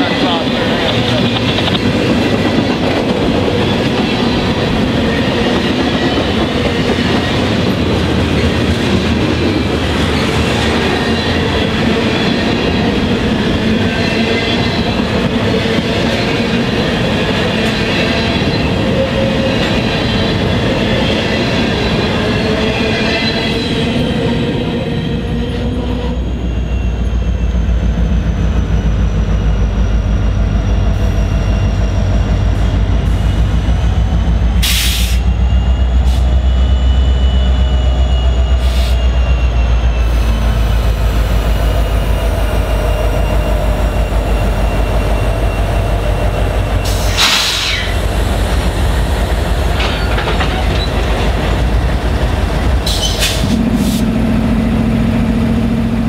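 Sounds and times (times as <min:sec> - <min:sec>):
diesel locomotive rumble: 0:00.0 - 0:56.0.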